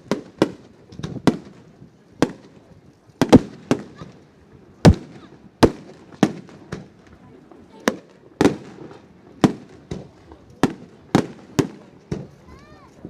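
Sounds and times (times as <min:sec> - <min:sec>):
fireworks bursting with echo: 0:00.0 - 0:13.0.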